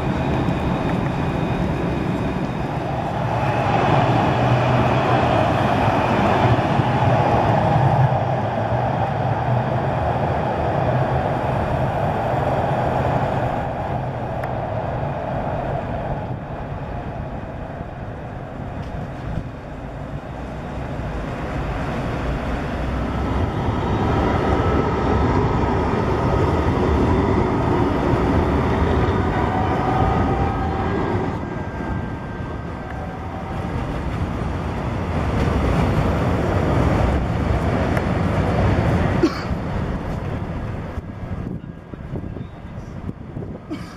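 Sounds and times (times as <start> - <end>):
tram passing: 0.0 - 43.9
wheels rumbling on rail: 0.0 - 43.9.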